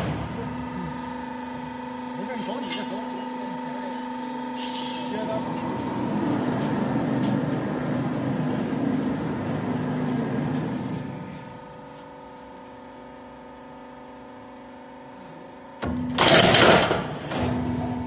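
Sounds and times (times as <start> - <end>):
roll forming machine running: 0.0 - 12.6, 15.7 - 18.0
motor hum: 0.0 - 18.0.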